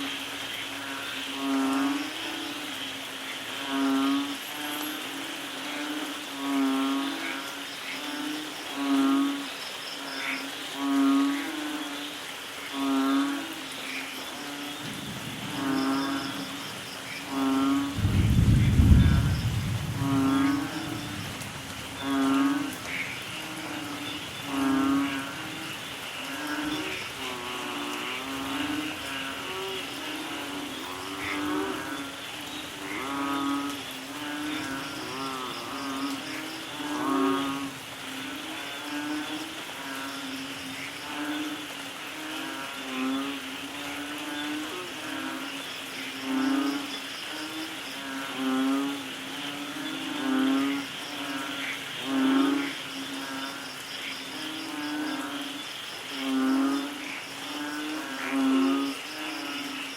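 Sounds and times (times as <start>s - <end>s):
frogs calling: 0.0s - 59.9s
steady rain: 0.0s - 59.9s.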